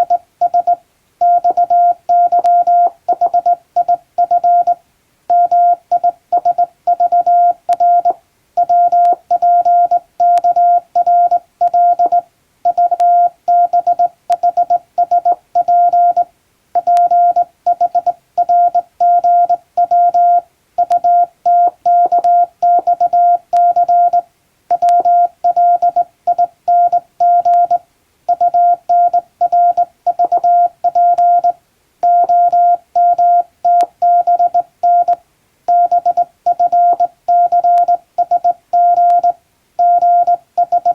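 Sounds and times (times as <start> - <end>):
morse code tone: 0.0 - 40.9.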